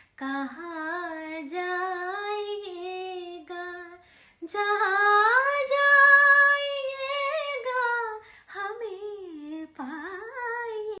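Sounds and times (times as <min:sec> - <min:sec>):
high voice singing unaccompanied: 0:00.2 - 0:11.0.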